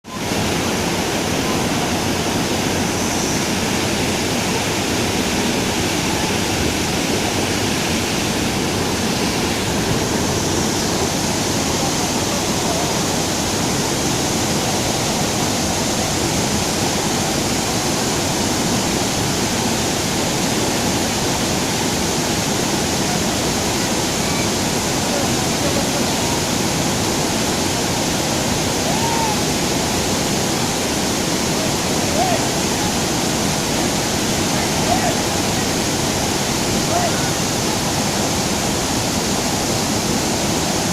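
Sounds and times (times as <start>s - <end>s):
waterfall: 0.0s - 40.9s.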